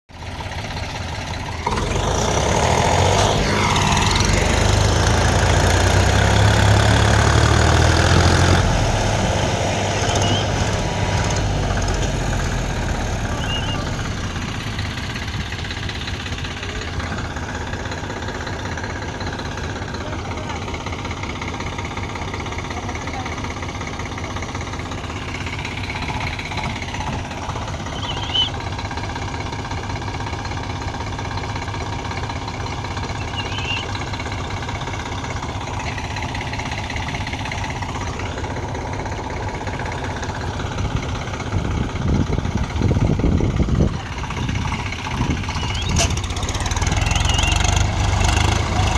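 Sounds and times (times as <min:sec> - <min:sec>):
tractor diesel engine: 0:00.1 - 0:48.9.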